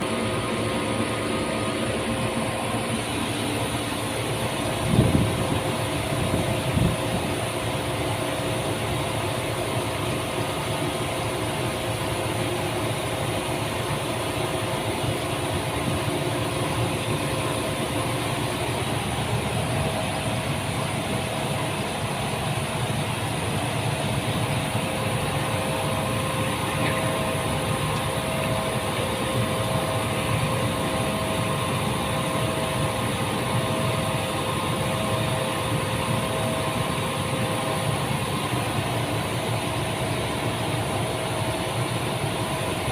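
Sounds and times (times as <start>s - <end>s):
machinery humming: 0.0s - 42.9s.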